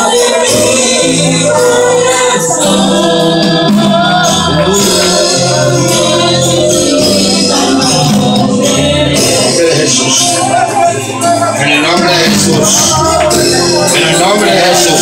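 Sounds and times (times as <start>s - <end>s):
bass line: 0.0s - 15.0s
group singing worship music: 0.0s - 15.0s
high-pitched percussion beat: 0.0s - 15.0s
keyboards: 0.0s - 15.0s.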